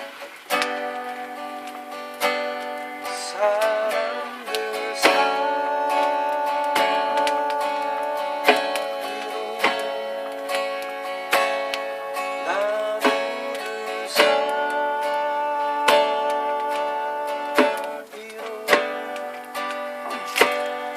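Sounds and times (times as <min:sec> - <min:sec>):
acoustic guitar strummed chords: 0:00.0 - 0:20.9.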